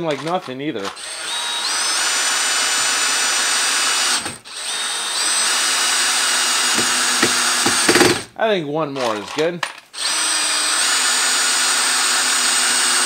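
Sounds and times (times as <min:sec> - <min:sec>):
drill driving screws into wood: 0:00.0 - 0:08.3, 0:10.0 - 0:13.0.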